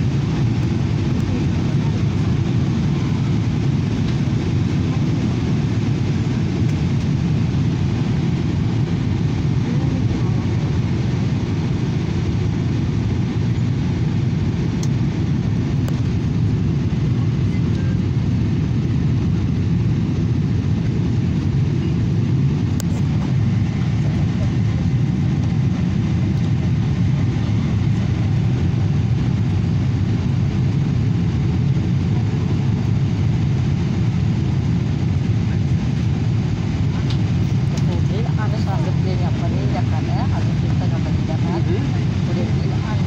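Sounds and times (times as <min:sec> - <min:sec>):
airliner cabin drone: 0:00.0 - 0:43.0.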